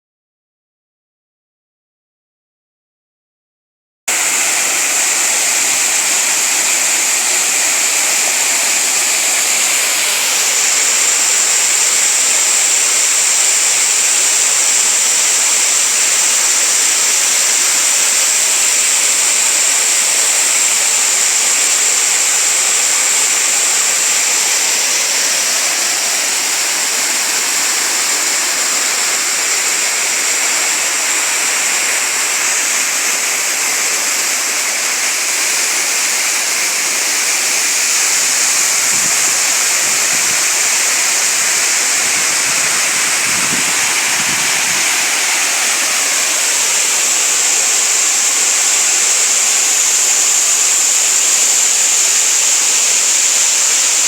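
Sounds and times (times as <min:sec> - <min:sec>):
waterfall rushing: 0:04.1 - 0:54.0.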